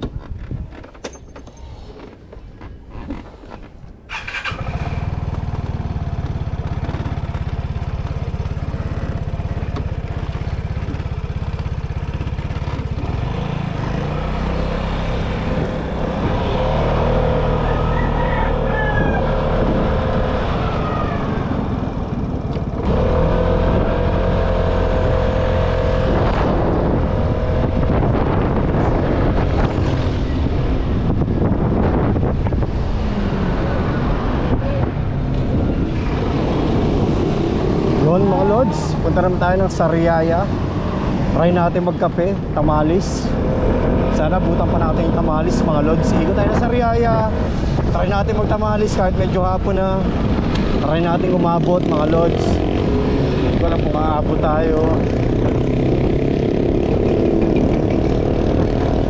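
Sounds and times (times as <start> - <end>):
rushing wind: 0.0 - 59.0
scooter engine running: 4.1 - 41.5, 43.3 - 59.0.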